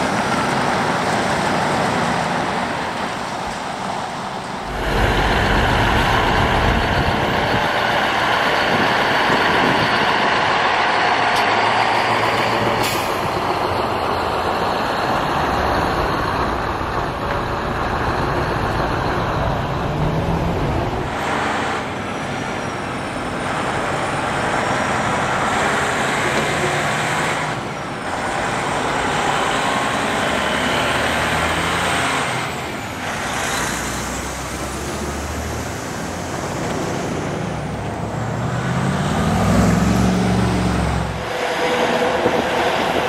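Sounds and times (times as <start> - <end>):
diesel truck engines: 0.0 - 43.0
surrounding traffic: 0.0 - 43.0
tyre noise on road: 0.0 - 43.0.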